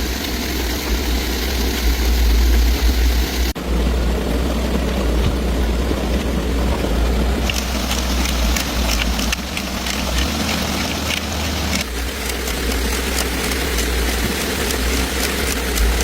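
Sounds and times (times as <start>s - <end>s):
engine idling: 0.0s - 16.0s
faint rapid ticking: 0.0s - 16.0s.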